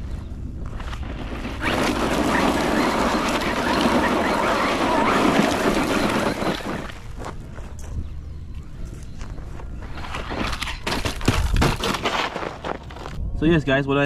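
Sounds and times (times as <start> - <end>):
rc truck driving over rough ground: 0.6 - 8.1, 9.1 - 13.2.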